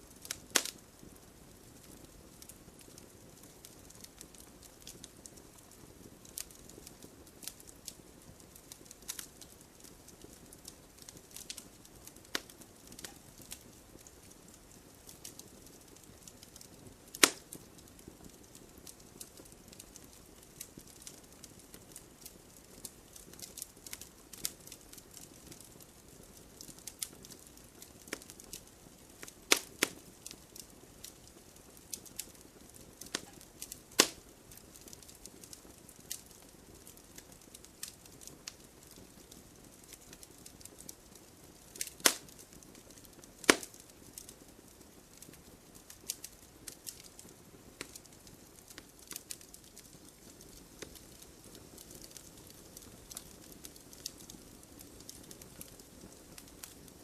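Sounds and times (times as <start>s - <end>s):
faint fire hiss: 0.0s - 57.0s
wood fire crackling: 0.0s - 57.0s.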